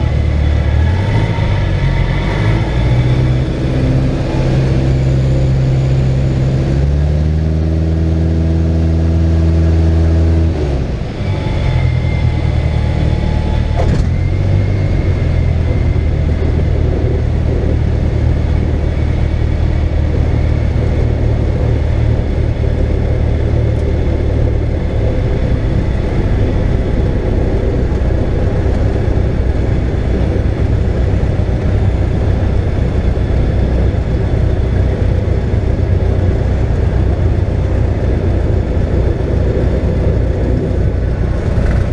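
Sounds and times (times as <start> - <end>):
airplane engine and propeller: 0.0 - 41.9.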